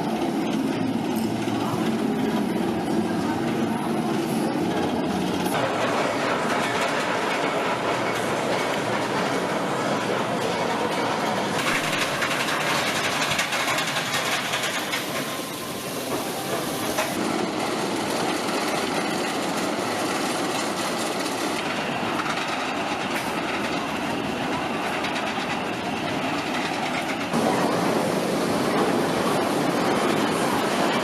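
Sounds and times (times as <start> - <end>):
roller coaster chain lift rattling: 0.0 - 31.0.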